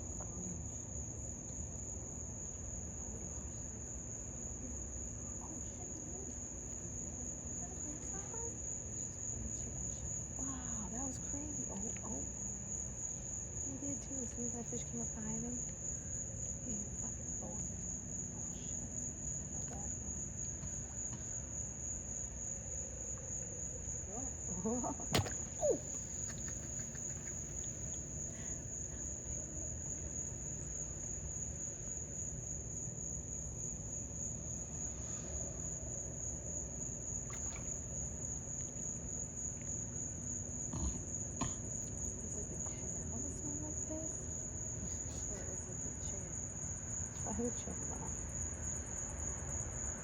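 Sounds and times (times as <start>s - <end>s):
low background hum: 0.0s - 50.0s
night insects trilling: 0.0s - 50.0s.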